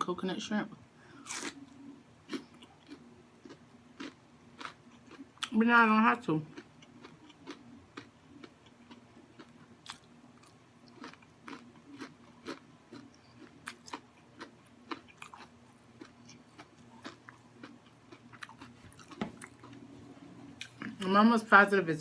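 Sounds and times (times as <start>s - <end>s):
crunchy chewing: 1.2s - 5.5s, 6.5s - 19.8s.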